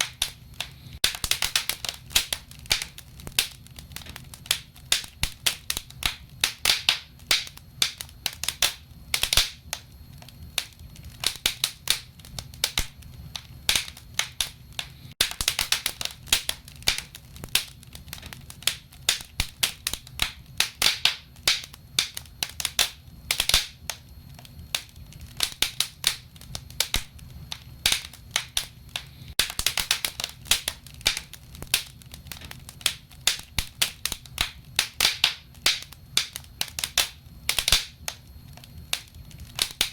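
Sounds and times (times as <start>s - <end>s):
rumble of flames: 0.0s - 39.9s
wood fire crackling and popping: 0.0s - 39.9s.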